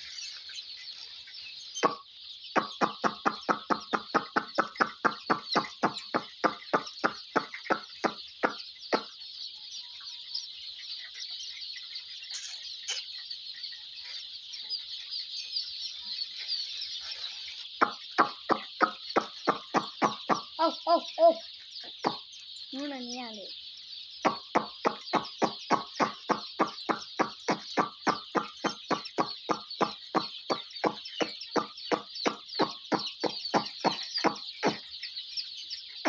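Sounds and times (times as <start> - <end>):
hen clucking: 0.0 - 9.4, 16.4 - 36.0
chicks peeping: 0.0 - 36.0.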